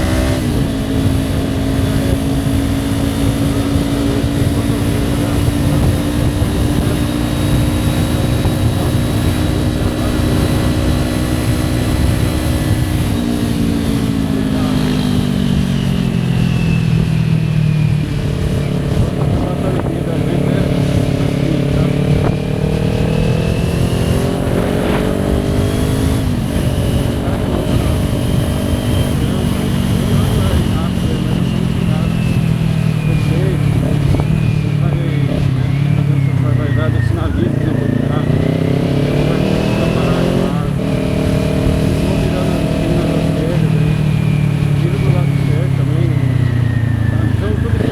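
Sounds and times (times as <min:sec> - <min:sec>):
heavy low rumble: 0:00.0 - 0:47.9
motorcycle engine running steady: 0:00.0 - 0:47.9.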